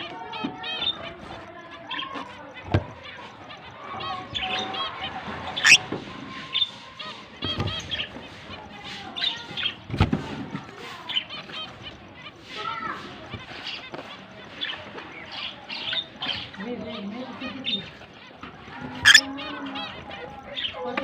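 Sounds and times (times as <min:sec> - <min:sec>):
lovebirds chirping: 0:00.0 - 0:09.9, 0:10.6 - 0:21.0.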